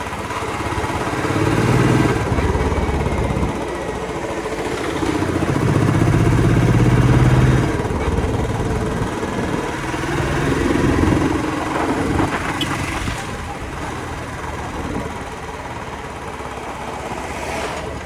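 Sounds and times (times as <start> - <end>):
motorcycle engine pulsing: 0.0 - 18.0.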